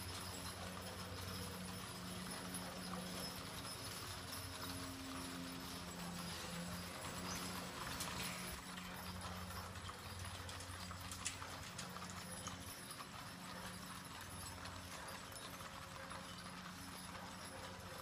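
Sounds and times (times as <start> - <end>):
hooves clip-clopping on pavement: 0.0 - 18.0.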